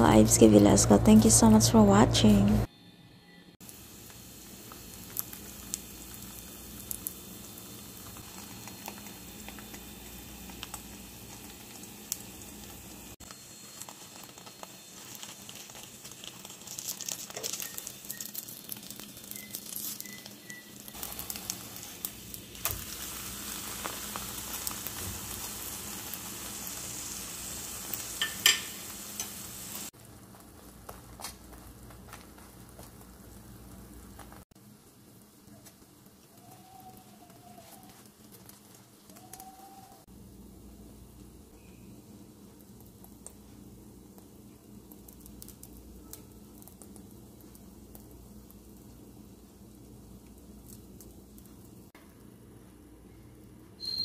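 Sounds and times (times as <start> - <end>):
oil crackling and popping: 3.6 - 40.1, 42.4 - 52.4
flatbread sizzling in oil: 3.6 - 52.0.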